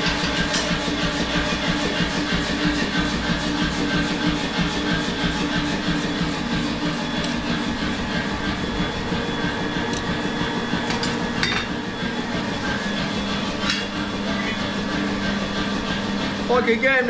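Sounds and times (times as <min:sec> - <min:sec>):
power hammer hammering: 0:00.0 - 0:16.0.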